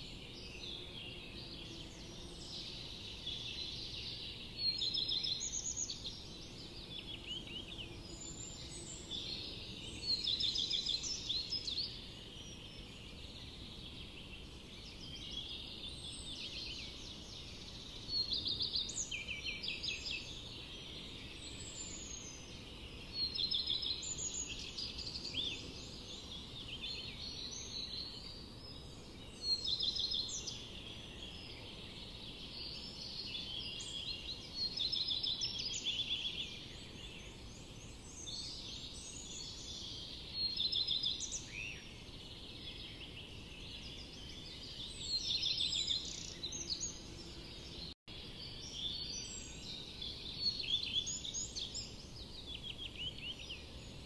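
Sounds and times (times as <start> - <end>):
steady low background hiss: 0.0 - 54.0.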